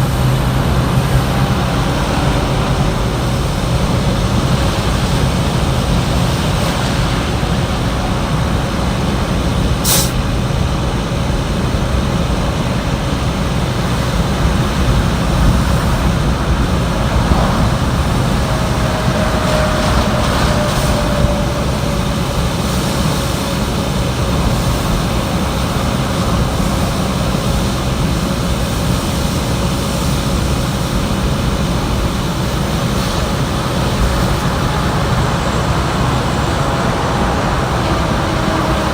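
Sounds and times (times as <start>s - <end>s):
heavy road traffic rumble: 0.0s - 38.9s.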